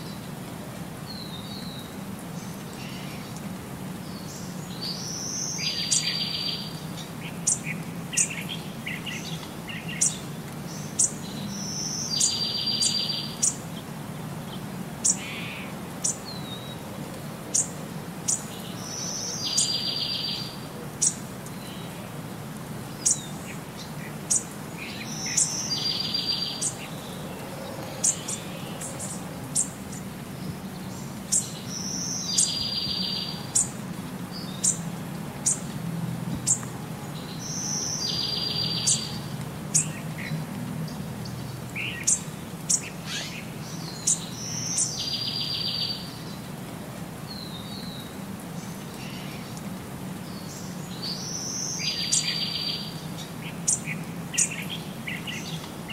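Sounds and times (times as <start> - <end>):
background hiss: 0.0 - 55.9.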